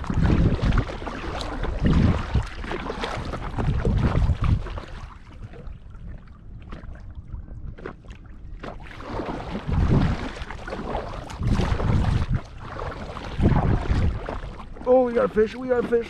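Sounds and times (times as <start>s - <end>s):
wind gusting on microphone: 0.0s - 7.9s, 9.0s - 16.0s
water lapping against kayak: 0.0s - 16.0s.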